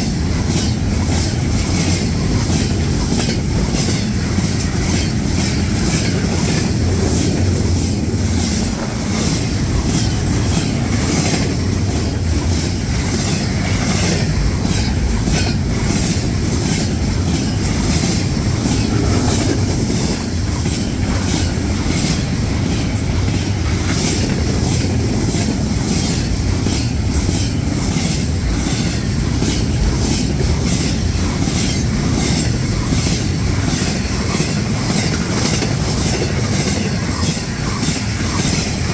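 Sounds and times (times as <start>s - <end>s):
freight train rumbling past: 0.0s - 38.9s
wheels clicking over rail joints: 0.0s - 38.9s.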